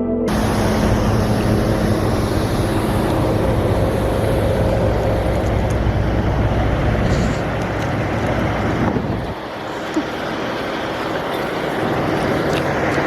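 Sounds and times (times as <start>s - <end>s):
vehicle engine drone: 0.0s - 13.0s
road noise: 0.3s - 13.0s.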